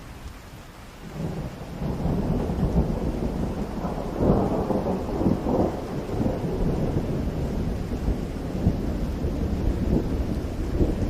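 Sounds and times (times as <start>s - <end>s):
rain falling in a forest: 0.0s - 11.0s.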